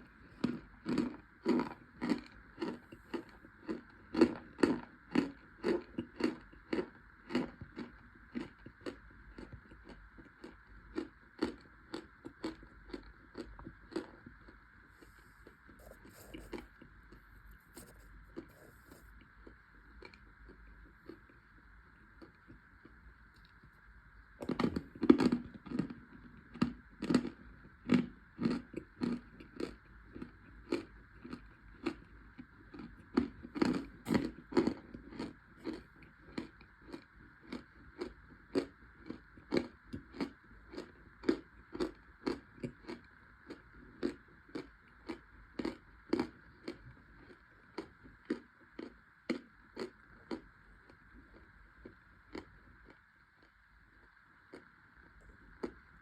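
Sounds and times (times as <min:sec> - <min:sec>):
chewing crunchy snack: 0:00.0 - 0:23.8, 0:24.4 - 0:56.0.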